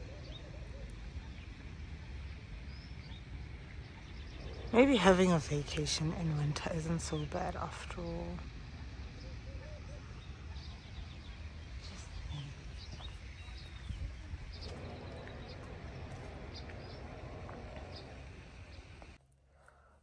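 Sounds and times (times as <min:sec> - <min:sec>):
birds chirping and calling: 0:00.0 - 0:19.2
low rumble: 0:00.9 - 0:19.2.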